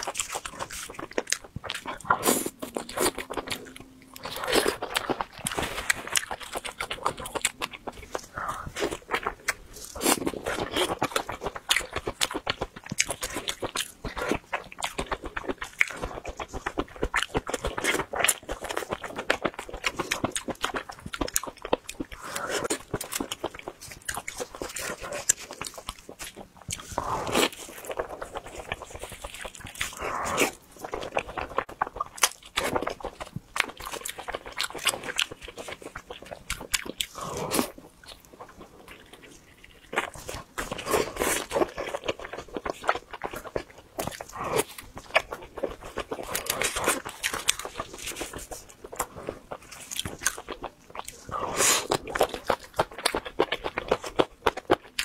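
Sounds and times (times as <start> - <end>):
chewing crunches: 0.0 - 55.0.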